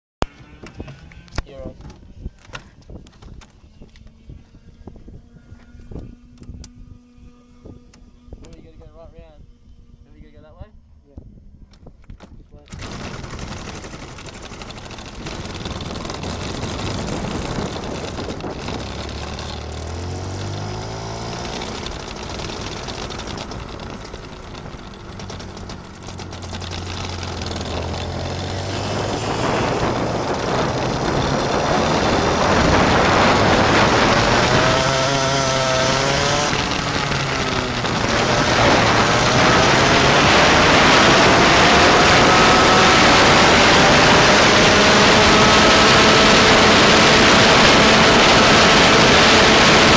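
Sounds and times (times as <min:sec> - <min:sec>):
go-kart engines revving: 0:00.2 - 0:08.6, 0:12.7 - 0:49.9.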